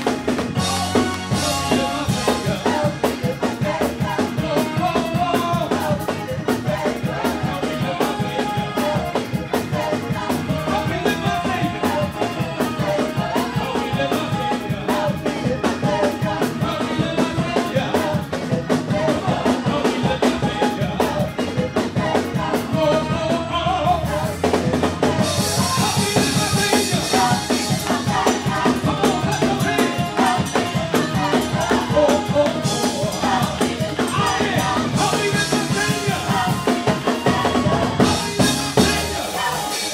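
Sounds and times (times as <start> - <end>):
band with drum kit: 0.0 - 39.9
gospel vocal group singing: 0.0 - 39.9.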